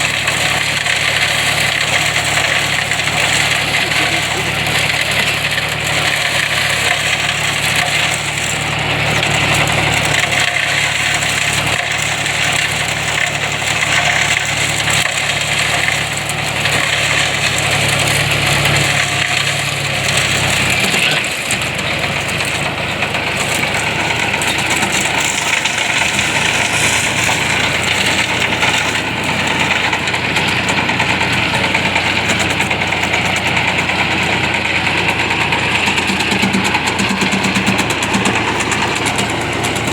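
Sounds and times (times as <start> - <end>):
shredder crackling and rattling: 0.0 - 39.9
tractor engine running: 0.0 - 39.9.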